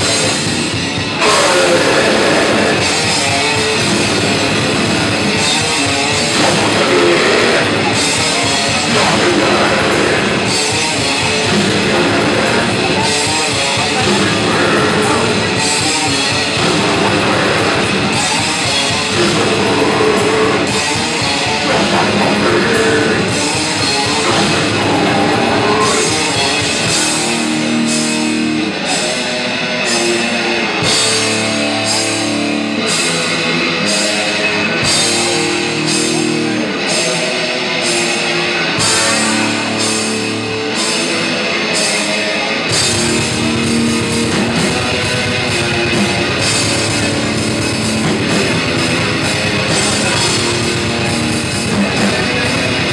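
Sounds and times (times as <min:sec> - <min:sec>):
death metal band playing live: 0:00.0 - 0:52.9.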